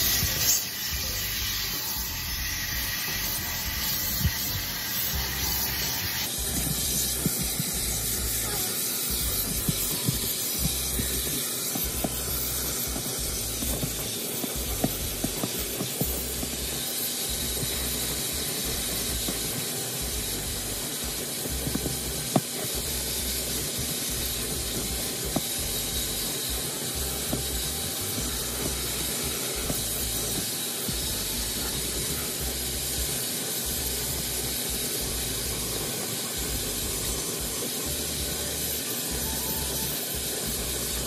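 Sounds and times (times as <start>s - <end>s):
shop vacuum running: 0.0s - 41.0s.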